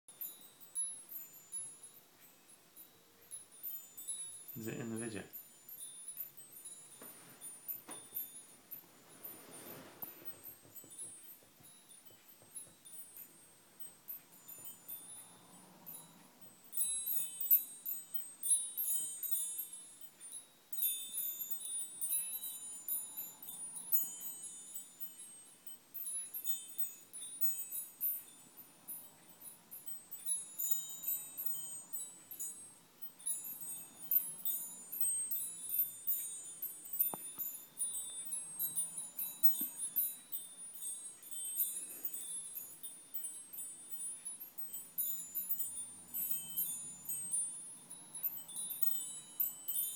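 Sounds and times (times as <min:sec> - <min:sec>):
metal wind chime tinkling: 0:00.1 - 0:49.9.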